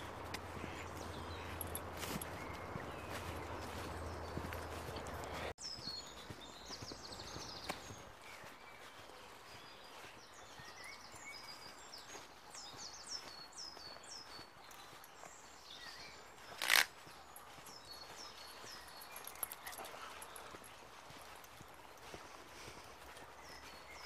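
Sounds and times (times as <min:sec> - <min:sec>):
footsteps on dirt path: 0:00.0 - 0:24.0
songbird chirping: 0:00.0 - 0:24.0.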